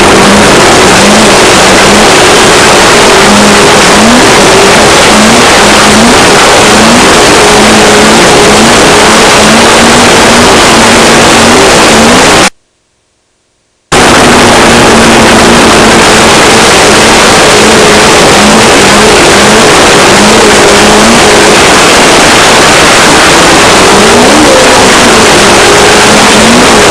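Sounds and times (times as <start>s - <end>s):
race car engine revving: 0.0s - 12.5s, 13.9s - 26.9s
rush of noise: 0.0s - 12.6s, 13.9s - 26.9s.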